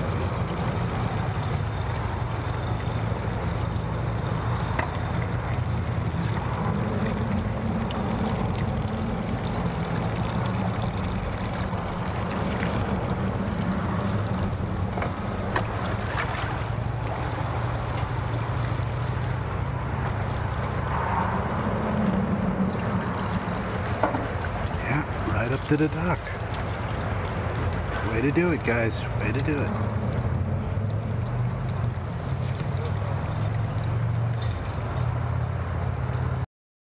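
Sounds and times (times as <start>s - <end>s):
outboard motor idling: 0.0s - 36.2s.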